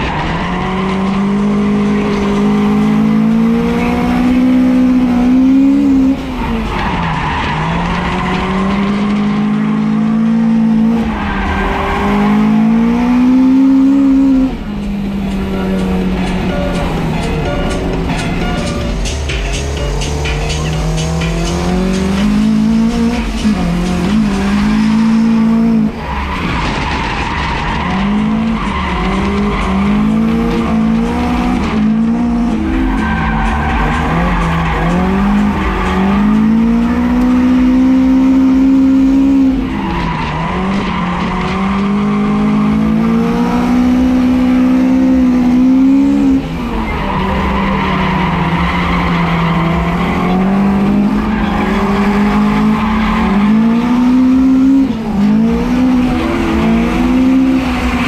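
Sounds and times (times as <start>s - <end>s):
car engine revving high: 0.0s - 58.0s
tyres squealing: 0.0s - 58.0s.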